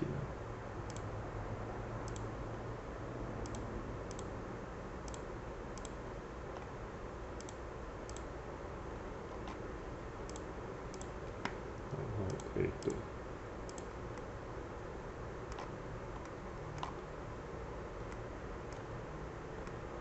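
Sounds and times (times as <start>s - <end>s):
low hum and hiss: 0.0s - 20.0s.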